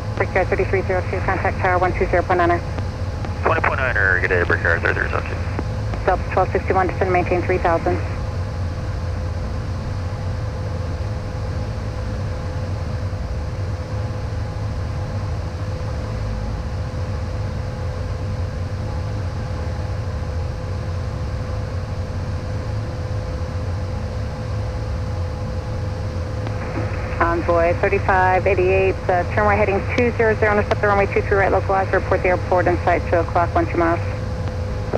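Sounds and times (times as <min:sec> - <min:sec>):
thin steady hum: 0:00.0 - 0:16.6, 0:17.2 - 0:34.9
jet cockpit drone: 0:00.0 - 0:34.9.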